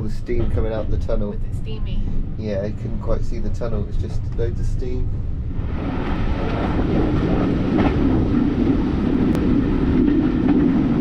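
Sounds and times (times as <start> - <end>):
train carriage rumbling and rattling: 0.0 - 11.0.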